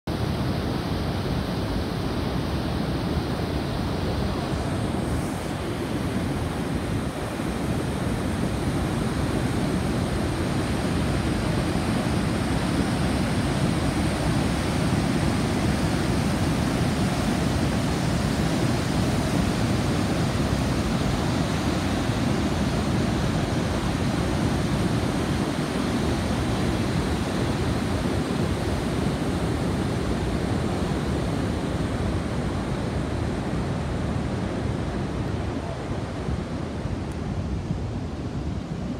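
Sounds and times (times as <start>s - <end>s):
large waterfall rushing: 0.1s - 38.9s.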